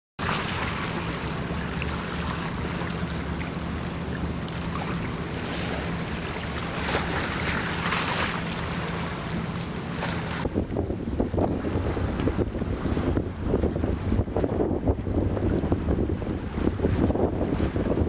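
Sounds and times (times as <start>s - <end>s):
sea water lapping against rocks: 0.2s - 18.0s
steady low hum: 0.2s - 18.0s
water splashes: 0.2s - 18.0s.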